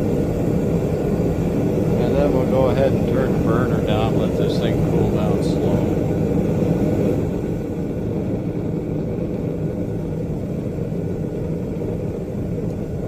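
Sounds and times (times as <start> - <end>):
gas burner rushing: 0.0 - 13.0.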